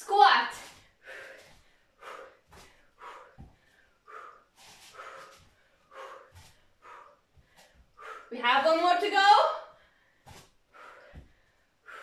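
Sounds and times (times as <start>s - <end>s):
woman breathing hard: 0.6s - 8.4s, 9.7s - 12.0s.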